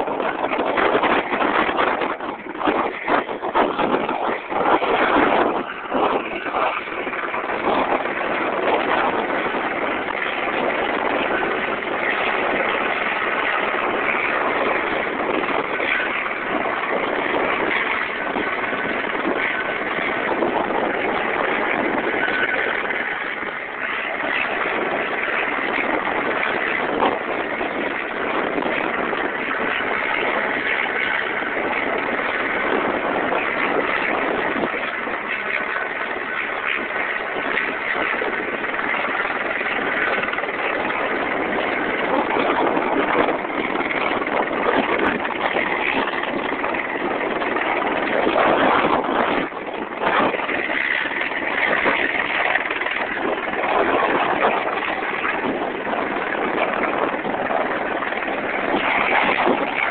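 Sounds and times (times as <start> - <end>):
helicopter hovering: 0.0 - 59.9.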